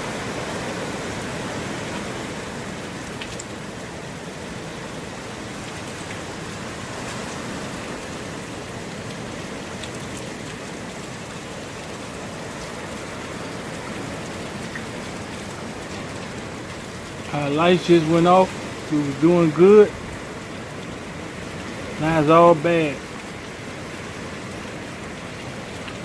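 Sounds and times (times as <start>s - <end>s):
heavy rain and wind: 0.0s - 26.0s.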